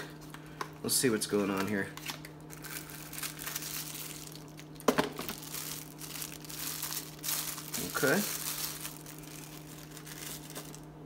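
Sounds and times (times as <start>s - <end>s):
plastic sleeve crinkling: 1.4s - 11.0s.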